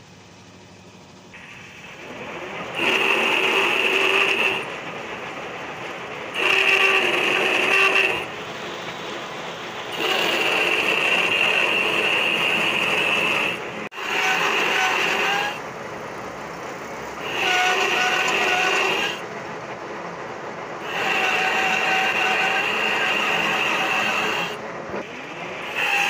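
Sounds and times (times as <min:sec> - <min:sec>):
lathe turning: 0:01.0 - 0:26.0
lathe cutting thread whine: 0:01.4 - 0:26.0.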